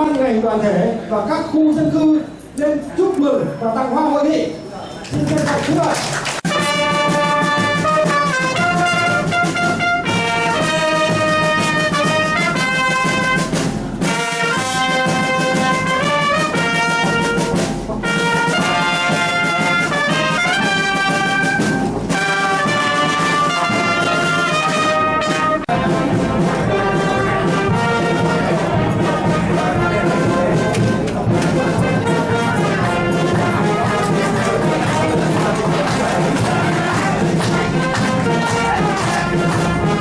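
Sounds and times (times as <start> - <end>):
brass band playing a march: 6.2 - 40.0.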